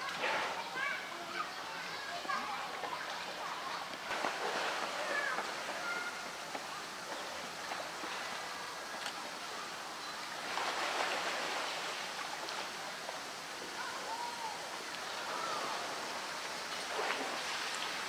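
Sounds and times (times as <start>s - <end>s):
water splashing in pool: 0.0s - 8.9s, 10.3s - 18.0s.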